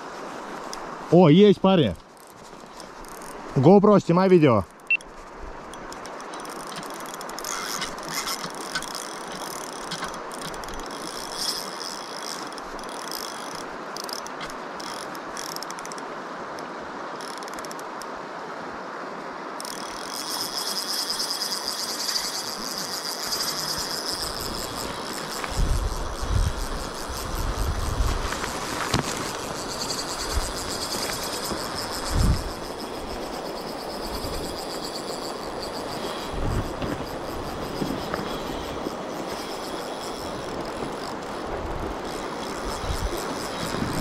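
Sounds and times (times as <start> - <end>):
river current rushing: 0.0 - 44.0
fishing reel ticking: 1.8 - 3.5, 5.7 - 16.0, 17.2 - 17.9, 19.6 - 44.0.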